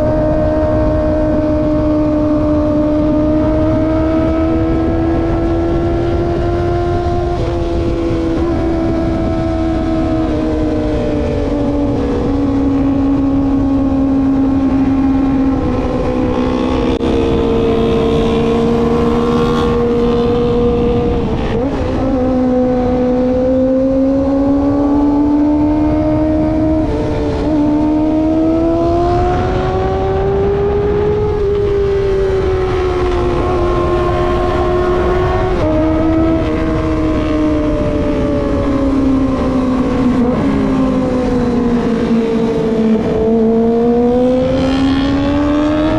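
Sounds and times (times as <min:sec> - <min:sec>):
gear changes: 0:00.0 - 0:45.9
motorcycle engine revving high: 0:00.0 - 0:45.9.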